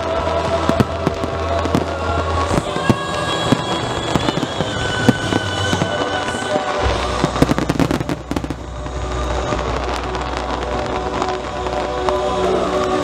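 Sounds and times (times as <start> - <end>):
fireworks bursting and crackling: 0.0 - 13.0
music playing: 0.0 - 13.0.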